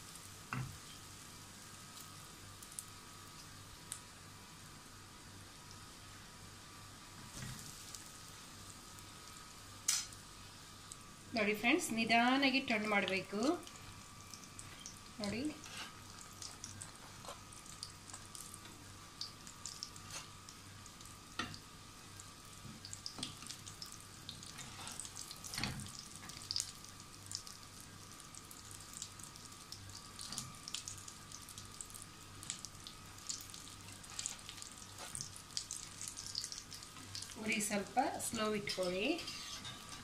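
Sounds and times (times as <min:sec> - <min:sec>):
cutlets sizzling in oil: 0:00.0 - 0:40.0.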